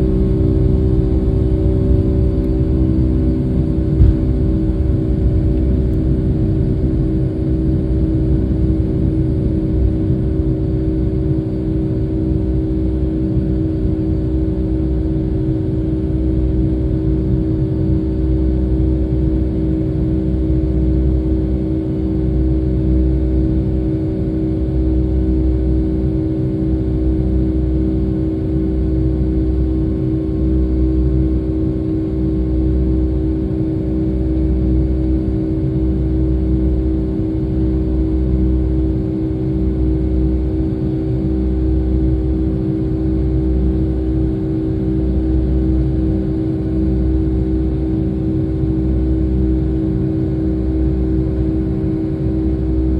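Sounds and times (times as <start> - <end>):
jet engine drone in cabin: 0.0 - 52.9.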